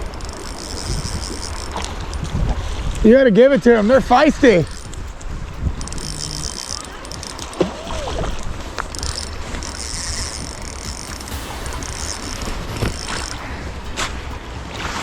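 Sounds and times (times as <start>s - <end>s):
running creek water: 0.0s - 15.0s
wind rumbling on microphone: 0.0s - 15.0s.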